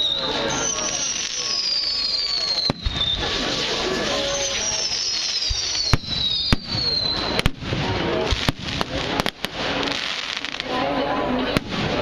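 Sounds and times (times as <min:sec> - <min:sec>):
fireworks banging: 0:00.0 - 0:12.0
whistling fireworks: 0:00.0 - 0:12.0.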